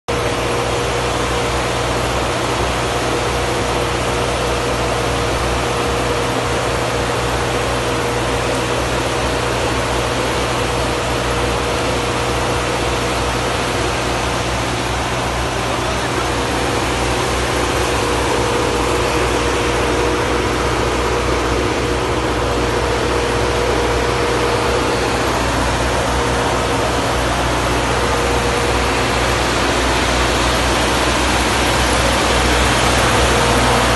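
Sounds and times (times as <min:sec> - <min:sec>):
rushing water noise: 0:00.1 - 0:33.9
water pump humming and whining: 0:00.1 - 0:33.9.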